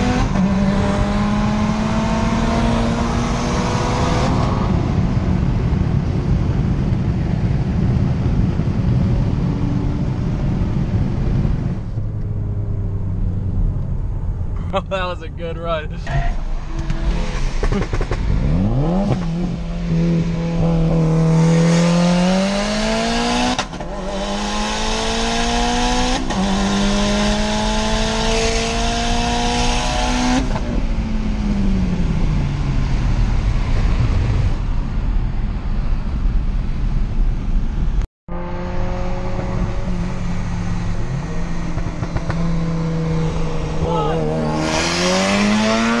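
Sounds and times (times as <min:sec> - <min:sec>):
car engine at full throttle: 0:00.0 - 0:46.0.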